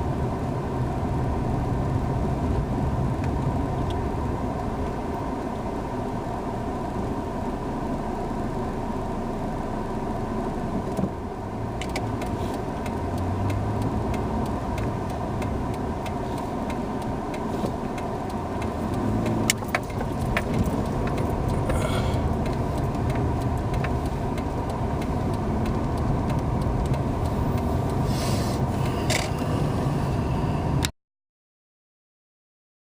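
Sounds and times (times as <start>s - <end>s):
car engine and road rumble: 0.0s - 30.9s.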